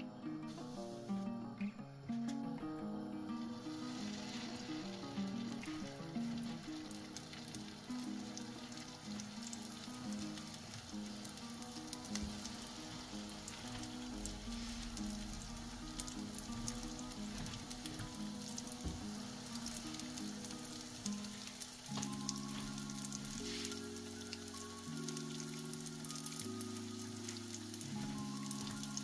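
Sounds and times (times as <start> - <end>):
soft background music: 0.0 - 29.0
dough frying in oil sizzling: 0.2 - 29.0.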